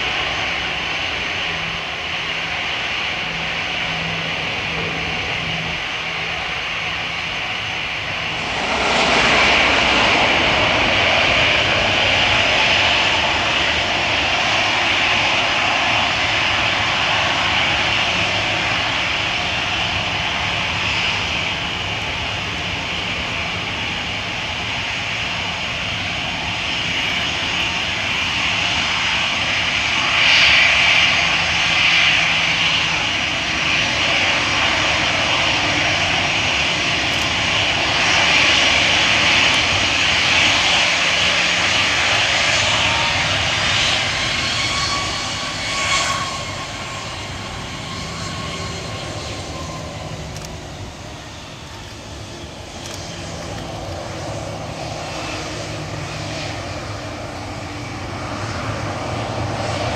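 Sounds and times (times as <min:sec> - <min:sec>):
jet airliner taxiing whine: 0:00.0 - 0:59.9.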